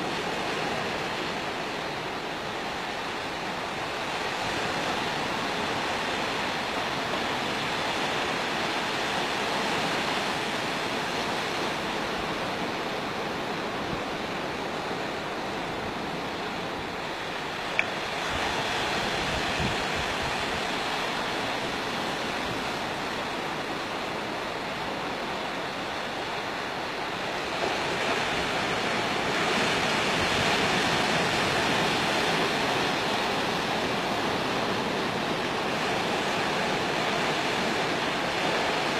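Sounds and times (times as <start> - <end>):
sea waves rushing: 0.0 - 38.9.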